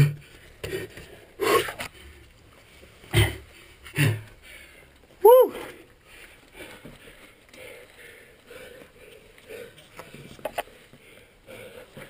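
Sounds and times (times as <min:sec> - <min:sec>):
person breathing hard: 0:00.1 - 0:02.2, 0:03.2 - 0:12.0.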